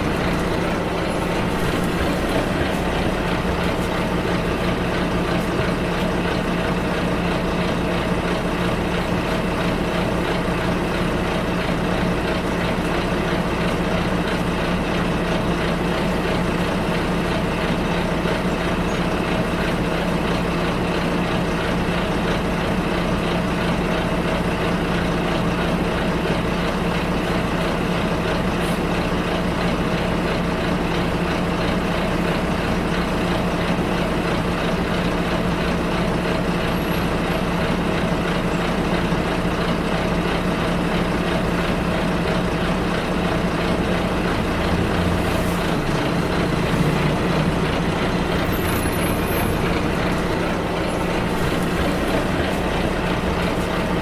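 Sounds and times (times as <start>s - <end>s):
bus engine drone: 0.0s - 54.0s
road and cabin noise: 0.0s - 54.0s.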